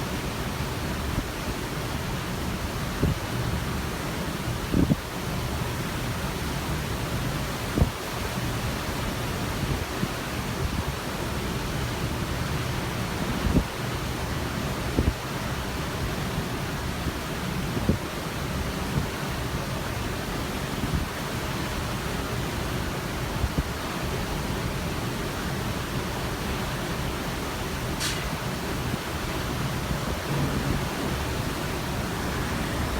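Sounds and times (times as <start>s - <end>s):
rushing sea water: 0.0s - 32.9s
wind: 0.0s - 32.9s.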